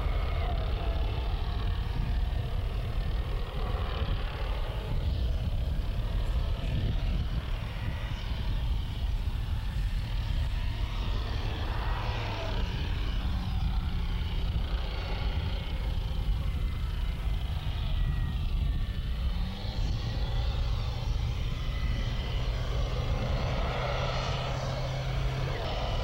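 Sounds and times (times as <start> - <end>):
tracked vehicle diesel engine rumble: 0.0 - 26.0.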